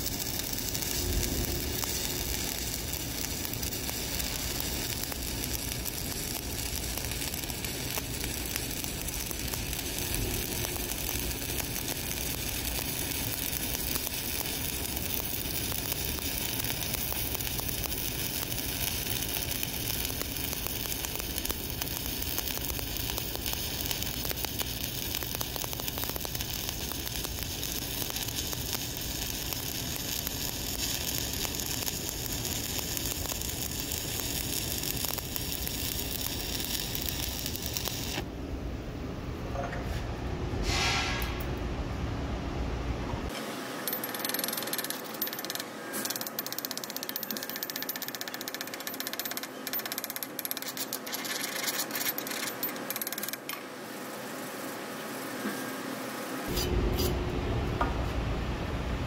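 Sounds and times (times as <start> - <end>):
welding arc sizzling crackle: 0.0 - 38.3, 43.3 - 59.0.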